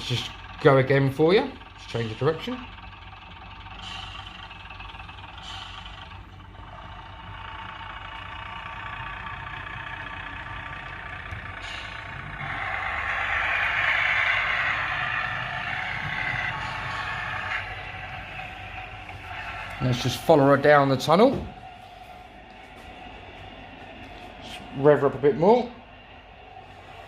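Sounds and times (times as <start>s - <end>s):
model diesel engine sound: 0.0s - 27.0s.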